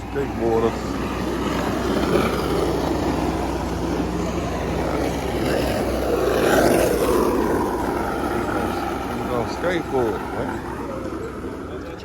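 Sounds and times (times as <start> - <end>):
skateboard wheels rolling on pavement: 0.0 - 12.0.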